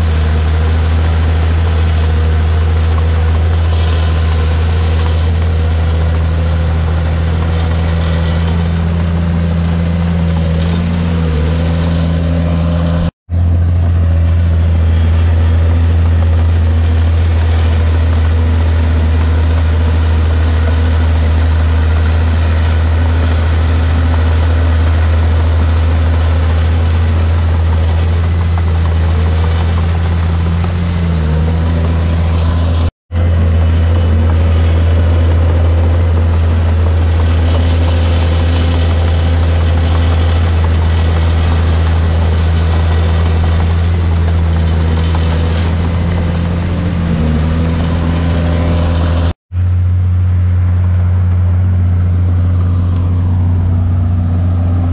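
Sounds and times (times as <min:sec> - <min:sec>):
heavy diesel engine droning: 0:00.0 - 0:54.9.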